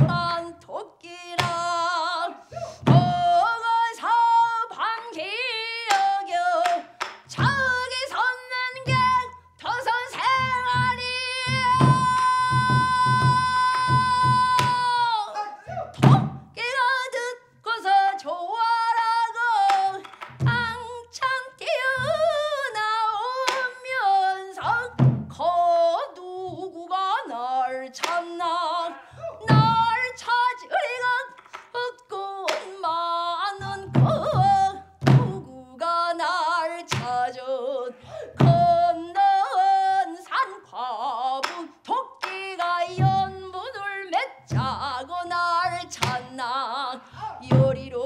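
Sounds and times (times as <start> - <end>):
woman singing with heavy vibrato: 0.0 - 48.0.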